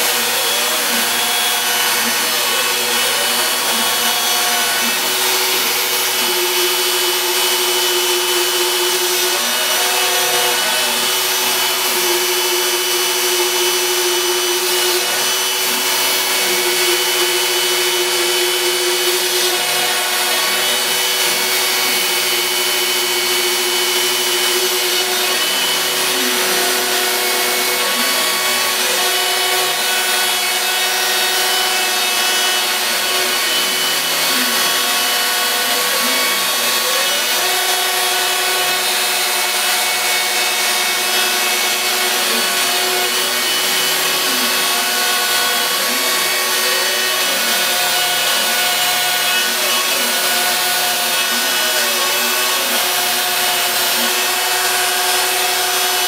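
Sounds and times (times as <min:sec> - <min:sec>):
router spindle running: 0:00.0 - 0:56.0.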